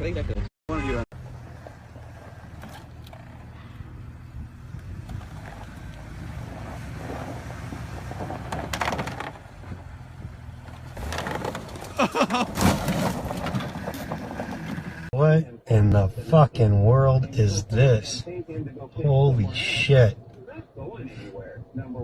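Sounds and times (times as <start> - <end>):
road noise from inside: 0.0 - 22.0
vehicle driving hum: 0.0 - 22.0.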